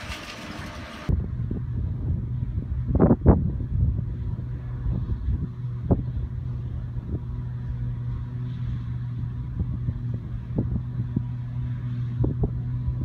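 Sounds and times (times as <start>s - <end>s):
forage harvester chopping drone: 0.0s - 13.0s
tractor engine running: 0.0s - 13.0s.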